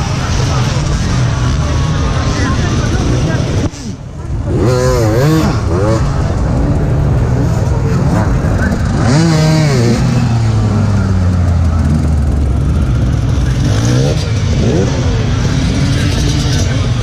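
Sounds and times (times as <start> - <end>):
background voices: 0.0 - 17.0
motorcycle engine revving: 0.0 - 17.0.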